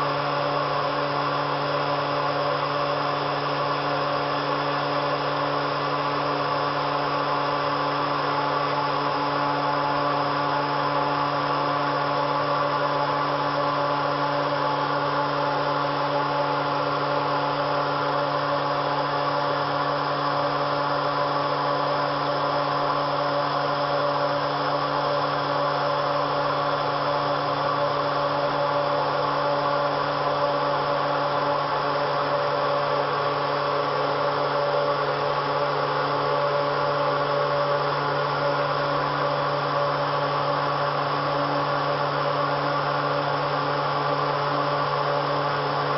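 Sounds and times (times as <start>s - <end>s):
router motor hum and whine: 0.0s - 45.9s.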